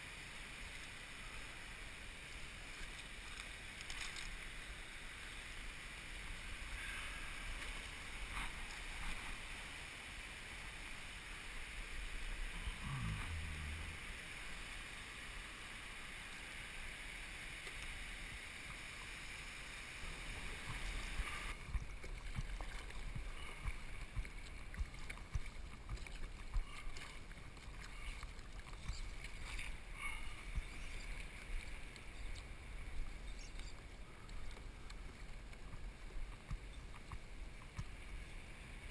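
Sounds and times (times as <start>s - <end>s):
wind: 0.0s - 38.9s.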